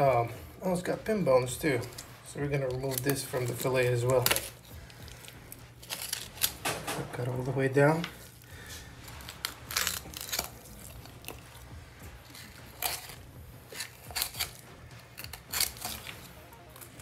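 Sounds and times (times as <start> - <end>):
knife crunching and scraping fish: 1.4 - 17.0.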